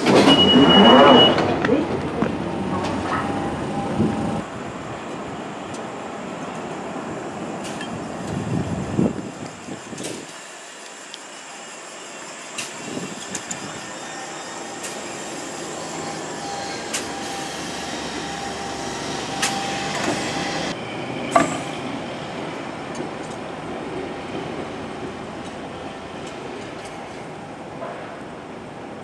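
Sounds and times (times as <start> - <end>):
train wheels running on rails: 0.0 - 29.0.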